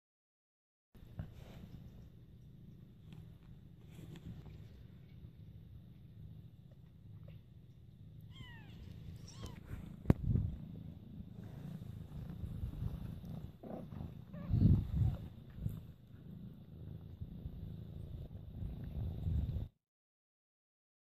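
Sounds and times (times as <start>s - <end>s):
cat purring: 1.0s - 19.7s.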